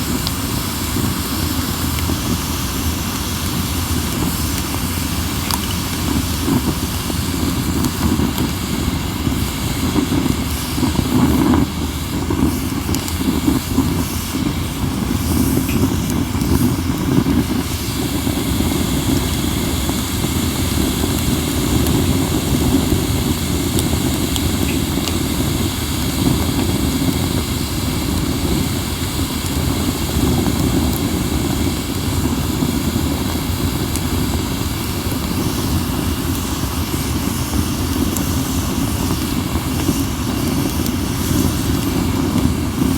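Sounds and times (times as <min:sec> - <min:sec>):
faint fire crackles: 0:00.0 - 0:42.9.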